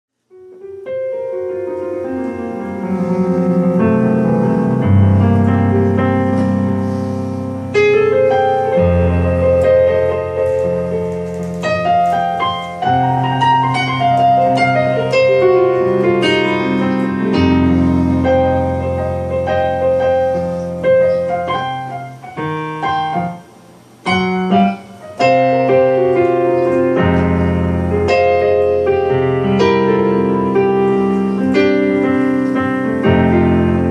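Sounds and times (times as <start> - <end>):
electronic keyboard piano chords: 0.2 - 33.9.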